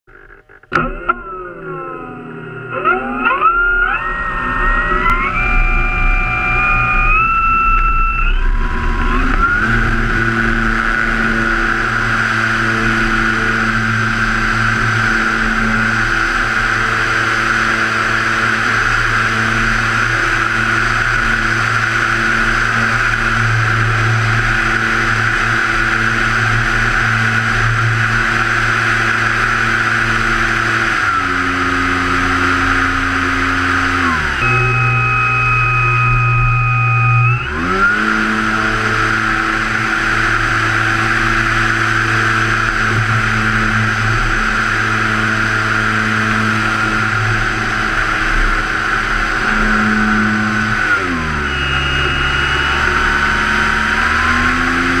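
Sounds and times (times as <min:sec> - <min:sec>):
model plane motor and propeller: 0:00.1 - 0:55.0.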